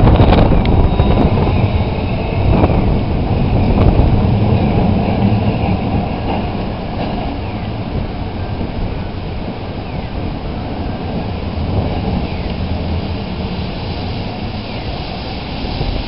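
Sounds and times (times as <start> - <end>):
streetcar wheels rumbling on rails: 0.0 - 16.0.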